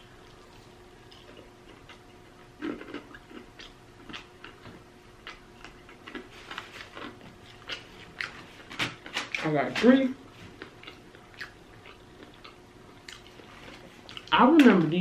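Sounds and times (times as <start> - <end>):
person chewing food: 0.0 - 9.4, 10.2 - 14.7.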